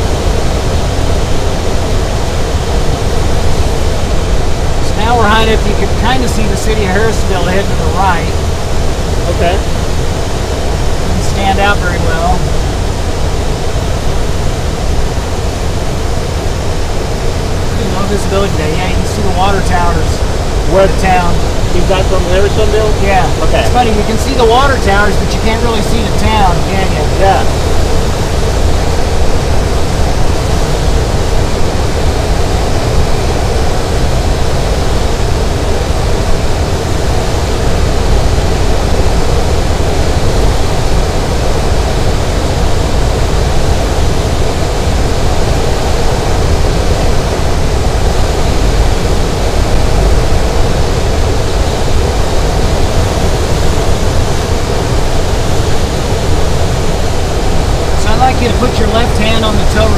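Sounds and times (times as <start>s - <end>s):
glider cockpit airflow rush: 0.0s - 59.9s.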